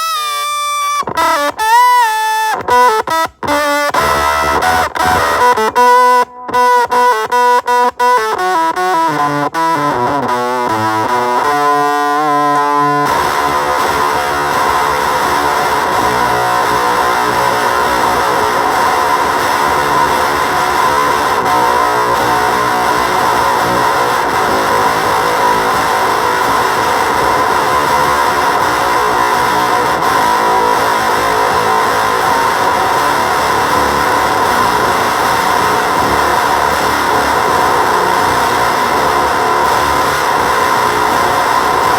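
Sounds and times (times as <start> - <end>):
fuzzed electric guitar: 0.0 - 41.9.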